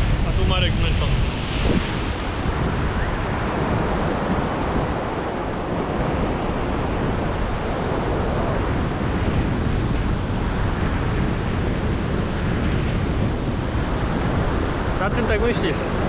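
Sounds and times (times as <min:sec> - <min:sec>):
sea surf: 0:00.0 - 0:16.0
wind rumbling on microphone: 0:00.0 - 0:16.0.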